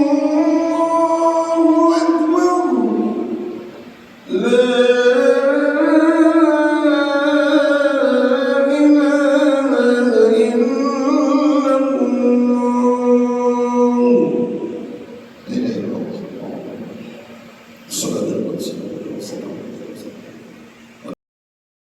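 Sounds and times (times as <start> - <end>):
man chanting call to prayer: 0.0 - 17.3, 17.9 - 20.5.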